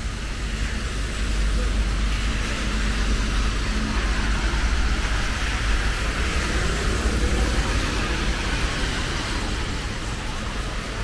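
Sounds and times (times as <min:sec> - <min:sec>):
low traffic rumble: 0:00.0 - 0:11.0
tyre hiss on wet road: 0:00.0 - 0:11.0.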